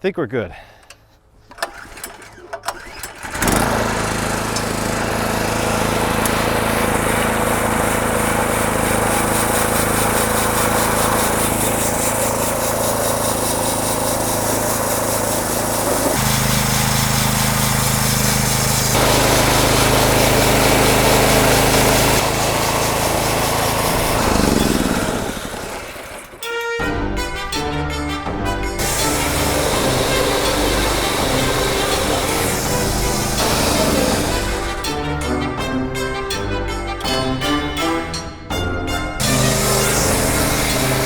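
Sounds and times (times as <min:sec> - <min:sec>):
small engine running: 0:01.6 - 0:26.6, 0:28.7 - 0:35.6, 0:39.2 - 0:41.0.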